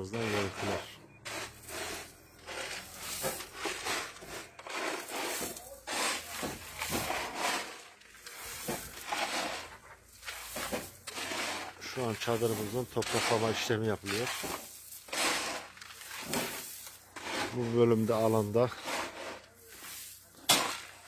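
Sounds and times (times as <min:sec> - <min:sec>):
shovel scraping gravelly soil: 0:00.0 - 0:21.0.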